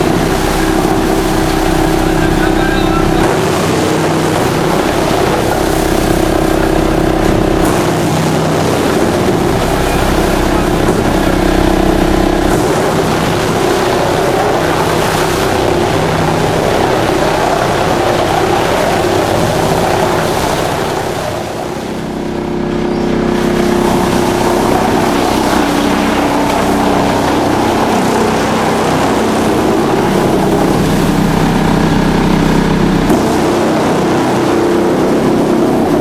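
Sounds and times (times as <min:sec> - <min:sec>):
wood chipper running: 0:00.0 - 0:36.0.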